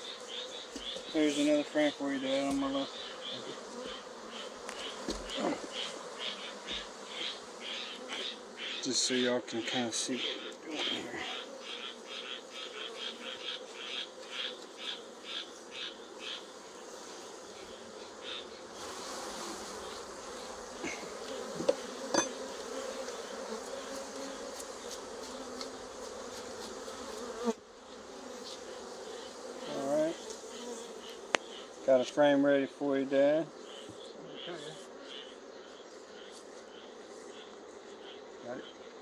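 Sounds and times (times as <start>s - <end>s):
bees buzzing: 0.0s - 39.0s
brush strokes on honeycomb: 0.0s - 39.0s.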